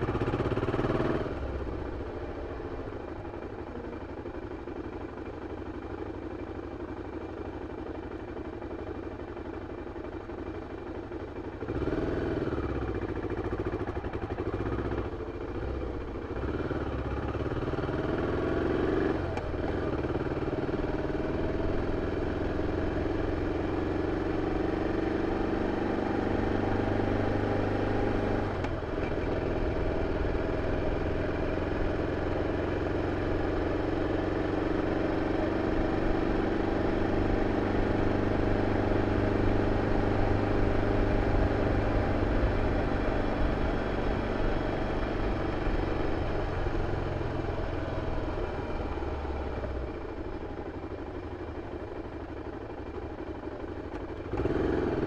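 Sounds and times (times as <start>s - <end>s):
motorcycle engine under way: 0.0s - 55.0s.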